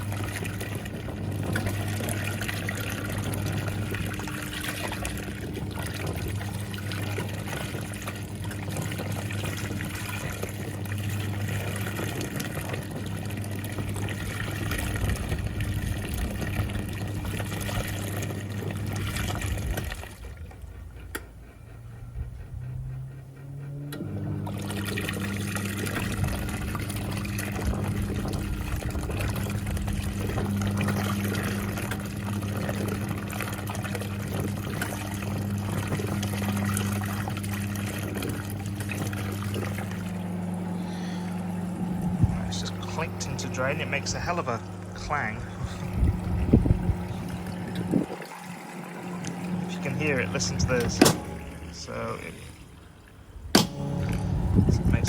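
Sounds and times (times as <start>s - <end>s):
washing machine motor hum: 0.0s - 55.0s
water swishing and churning: 0.0s - 55.0s.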